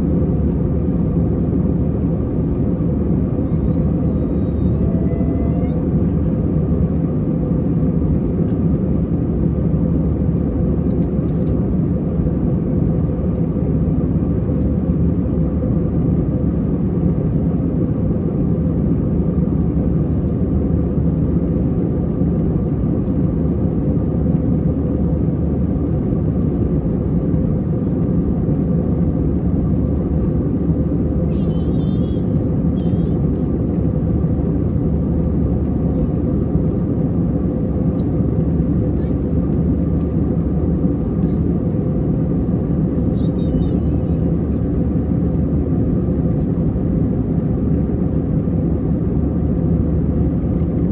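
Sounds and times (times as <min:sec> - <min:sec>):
jet engines and airflow rushing: 0:00.0 - 0:50.9.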